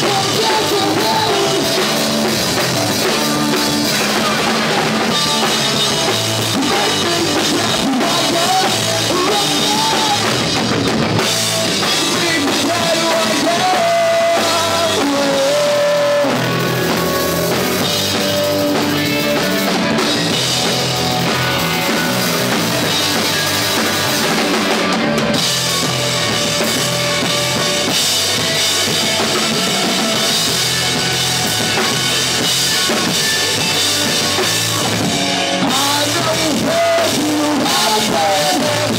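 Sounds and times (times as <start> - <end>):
rock band playing loudly: 0.0 - 38.9.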